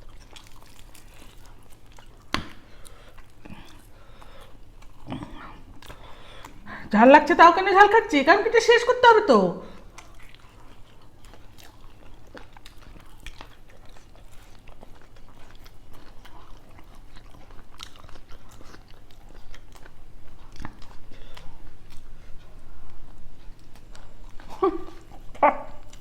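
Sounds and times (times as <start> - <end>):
people chewing food: 0.0 - 26.0.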